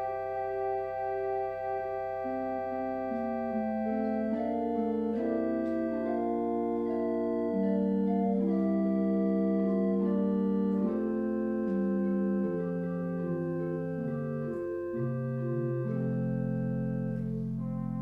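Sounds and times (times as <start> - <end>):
organ playing held chords: 0.0 - 18.0.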